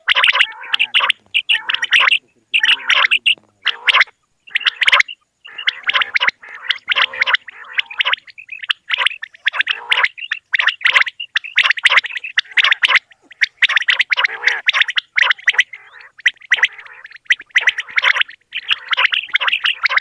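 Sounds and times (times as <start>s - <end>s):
quails calling: 0.0s - 20.0s.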